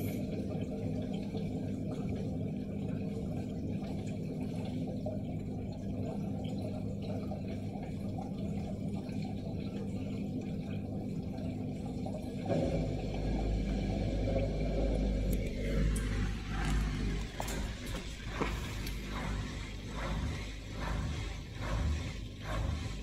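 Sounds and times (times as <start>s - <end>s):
washing machine humming: 0.0s - 23.0s
water sloshing: 0.0s - 23.0s.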